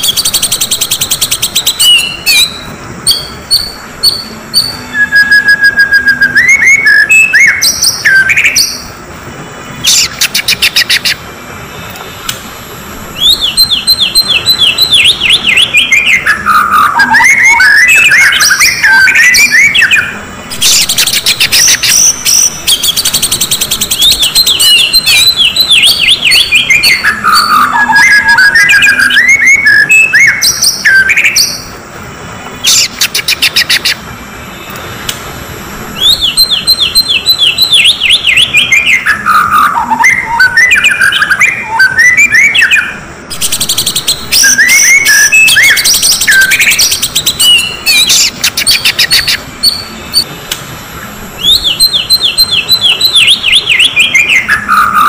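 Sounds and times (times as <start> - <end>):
bird song with varied chirps: 0.0 - 55.0.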